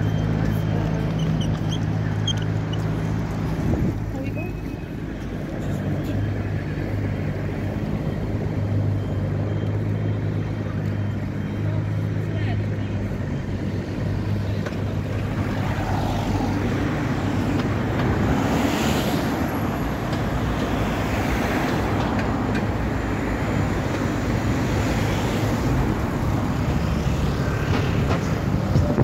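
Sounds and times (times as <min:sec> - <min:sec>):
cars driving past: 0:00.0 - 0:29.0.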